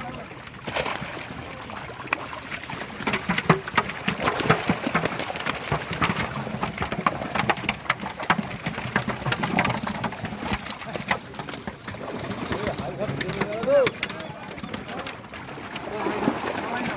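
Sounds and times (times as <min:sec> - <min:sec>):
fish splashing in water: 0:00.0 - 0:16.9.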